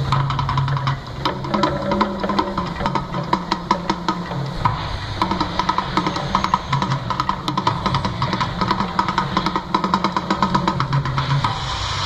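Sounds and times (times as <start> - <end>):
low steady drone: 0.0 - 12.0
rapid drum hits: 0.0 - 12.0.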